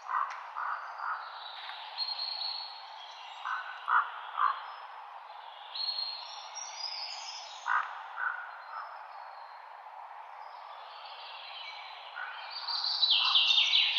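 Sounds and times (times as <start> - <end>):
songbirds singing: 0.0 - 13.9.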